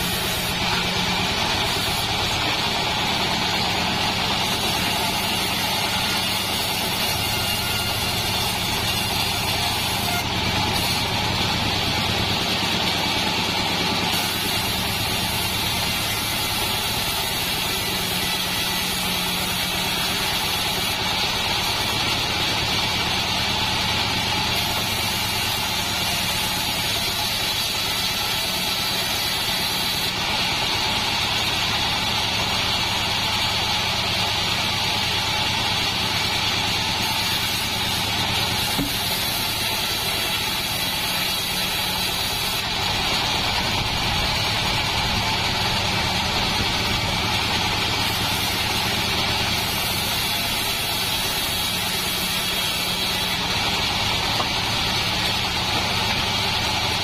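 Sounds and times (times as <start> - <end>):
band blade hissing in wood: 0.0 - 44.7, 45.3 - 56.9
bandsaw mill droning: 0.0 - 57.0.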